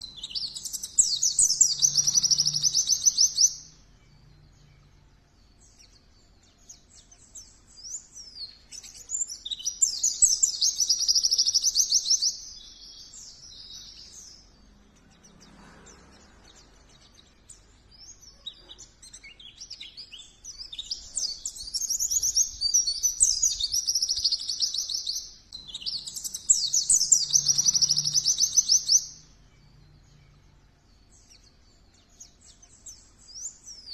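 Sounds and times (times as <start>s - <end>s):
bird twittering: 0.0s - 3.8s, 5.7s - 29.3s.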